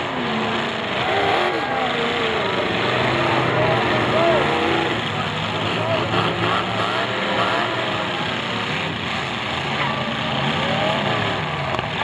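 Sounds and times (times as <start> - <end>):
car engines revving together: 0.0 - 12.0.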